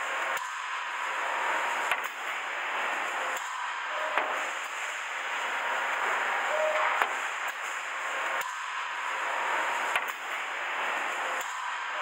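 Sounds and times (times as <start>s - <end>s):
air hiss and machine noise: 0.0s - 12.0s.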